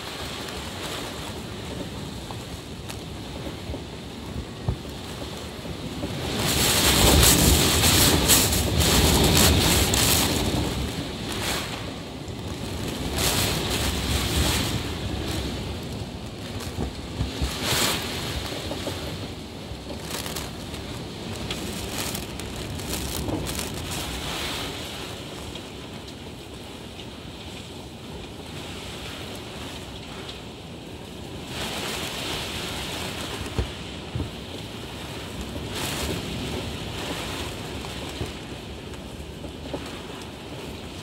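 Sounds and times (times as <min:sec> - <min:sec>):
heavy rain: 0:00.0 - 0:41.0
wind gusting on microphone: 0:00.0 - 0:41.0.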